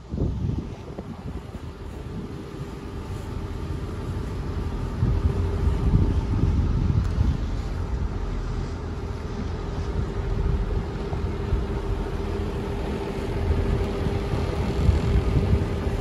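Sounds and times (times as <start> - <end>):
motorboat engine running: 0.0 - 16.0
wind buffeting microphone: 0.0 - 16.0.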